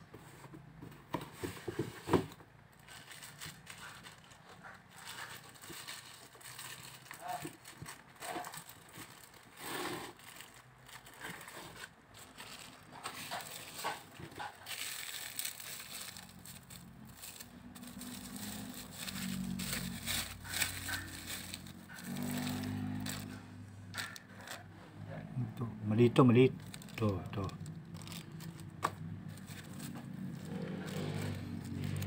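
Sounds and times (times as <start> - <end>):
bubble wrap crinkling: 2.7 - 24.7, 26.0 - 32.0.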